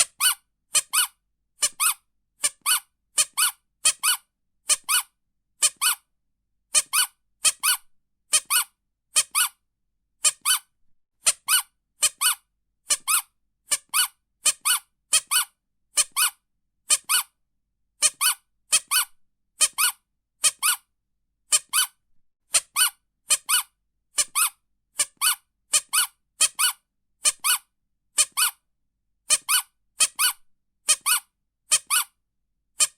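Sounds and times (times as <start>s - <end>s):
rubber squeaky toy squeaking: 0.0s - 6.1s, 6.7s - 9.6s, 10.2s - 17.4s, 18.0s - 32.9s.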